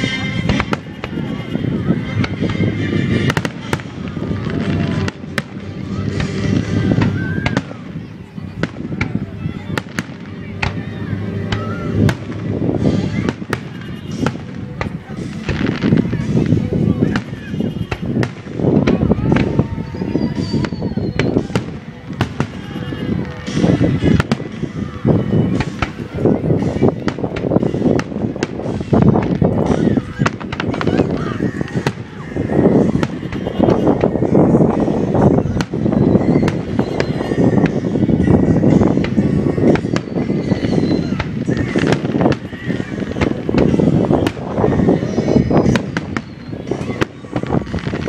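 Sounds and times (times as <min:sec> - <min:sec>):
continuous rumble: 0:00.0 - 0:48.0
fireworks bursting: 0:00.0 - 0:48.0.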